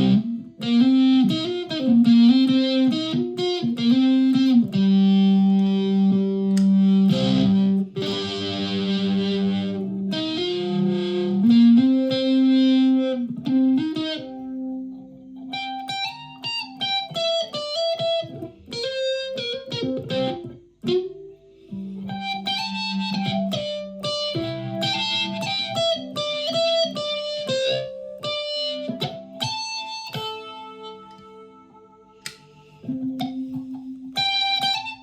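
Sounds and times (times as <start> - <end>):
electric ukulele playing: 0.0 - 35.0.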